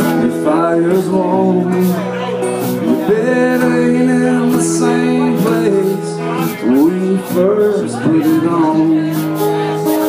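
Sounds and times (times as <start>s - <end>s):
man singing long held notes: 0.0s - 10.0s
strummed acoustic guitar: 0.0s - 10.0s.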